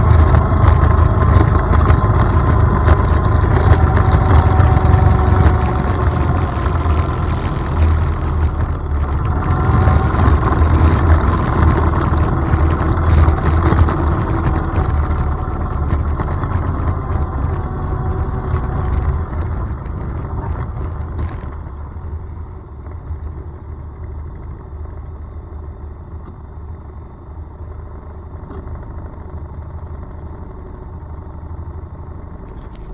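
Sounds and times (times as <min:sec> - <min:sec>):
atv engine running: 0:00.0 - 0:32.9.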